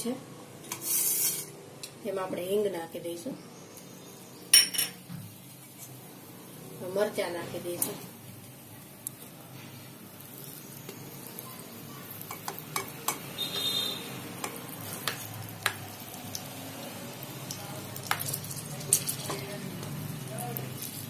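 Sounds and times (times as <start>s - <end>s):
oil sizzling in a frying pan: 0.6s - 1.6s, 4.1s - 21.0s.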